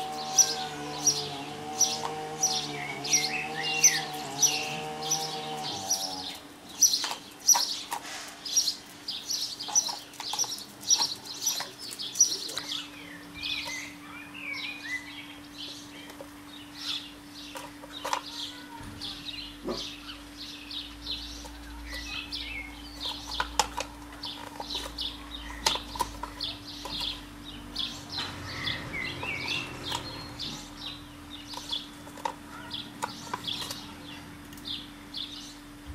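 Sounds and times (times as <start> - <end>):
bird chirping: 0.0 - 35.7.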